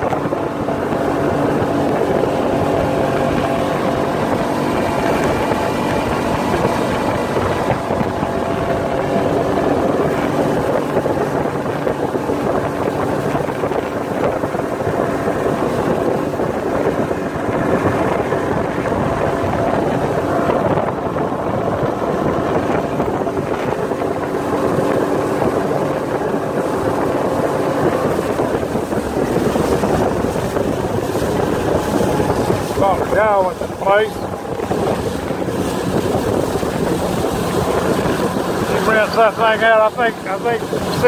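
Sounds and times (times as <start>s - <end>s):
outboard motor running: 0.0s - 41.0s
wind on microphone: 0.0s - 41.0s.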